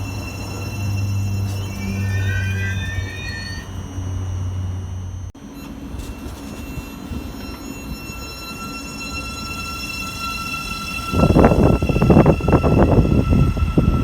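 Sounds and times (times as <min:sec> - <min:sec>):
train low hum: 0:00.0 - 0:14.0
train rumble: 0:00.0 - 0:14.0
train whine pulling away: 0:00.0 - 0:14.0.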